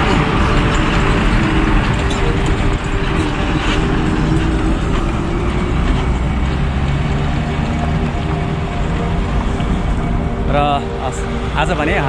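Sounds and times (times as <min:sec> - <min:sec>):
bus engine running: 0:00.0 - 0:12.0
road traffic: 0:00.0 - 0:12.0.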